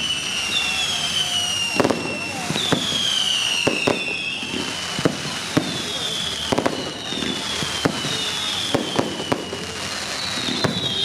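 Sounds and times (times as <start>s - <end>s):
firework whistles gliding down: 0.0s - 11.0s
fireworks bangs: 0.0s - 11.0s.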